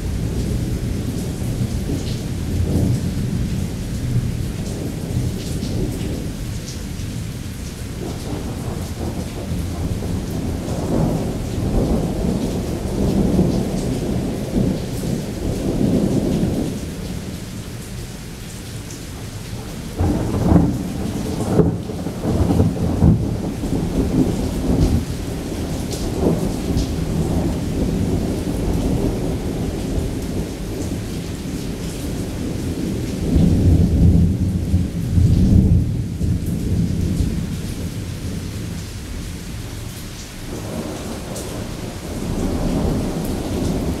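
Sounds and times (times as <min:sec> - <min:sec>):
thunder rumbling: 0:00.0 - 0:18.1, 0:19.1 - 0:39.5, 0:40.5 - 0:44.0
heavy rain: 0:00.0 - 0:44.0.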